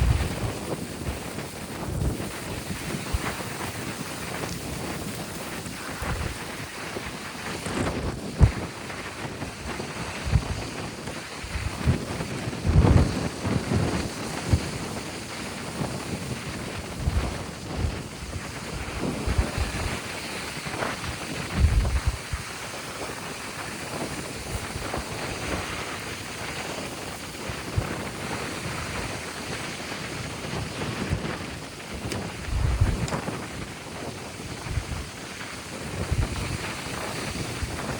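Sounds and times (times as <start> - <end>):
surf from choppy sea: 0.0 - 37.9
wind buffeting microphone: 0.0 - 37.9.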